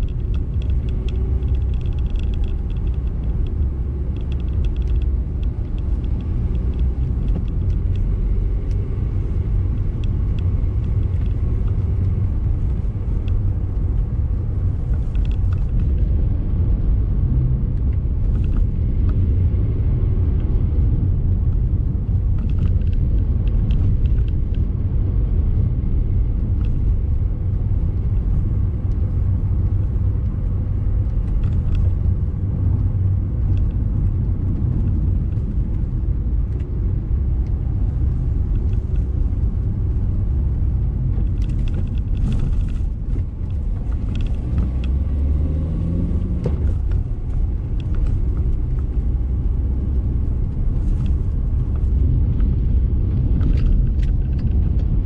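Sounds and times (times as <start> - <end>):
car interior road rumble: 0.0 - 55.0.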